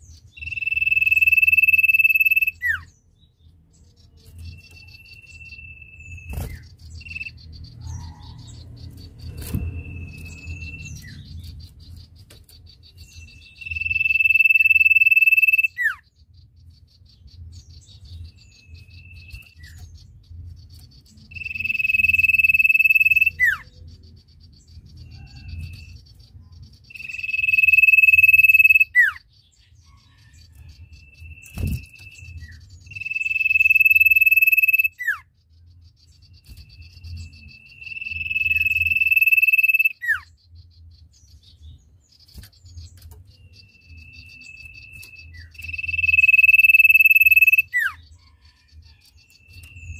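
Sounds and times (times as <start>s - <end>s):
bird whistling song: 0.0s - 49.9s.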